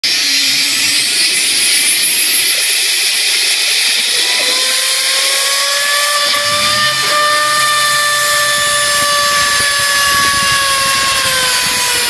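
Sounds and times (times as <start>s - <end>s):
compressed air hissing: 0.0s - 12.0s
spinning ball whine rising: 0.0s - 12.0s.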